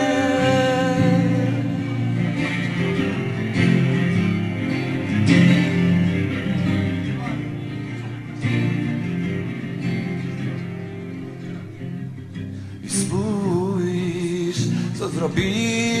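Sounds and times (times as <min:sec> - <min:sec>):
strummed acoustic guitar chords: 0:00.0 - 0:16.0.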